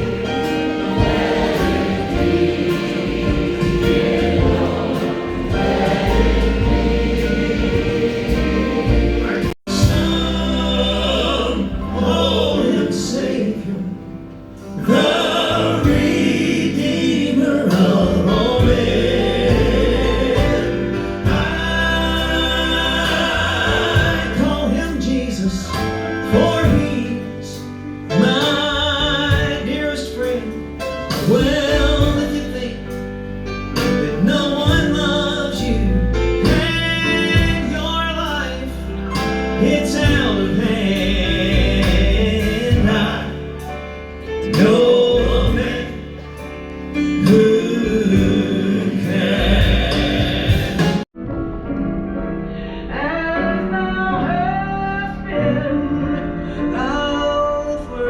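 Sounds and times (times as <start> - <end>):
gospel singing with instruments: 0.0 - 51.2.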